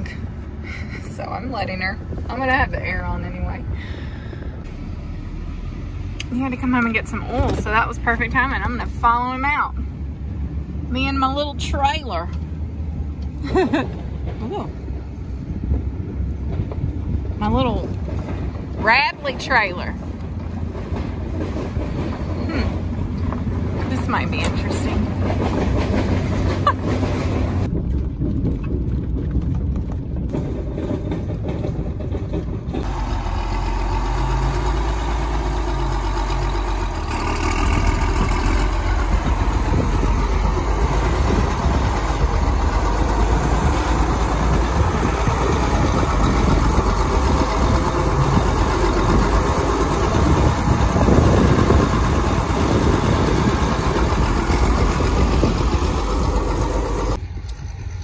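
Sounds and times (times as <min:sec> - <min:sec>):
tractor engine running: 0:00.0 - 0:58.0
vehicle driving on dirt track: 0:00.0 - 0:58.0.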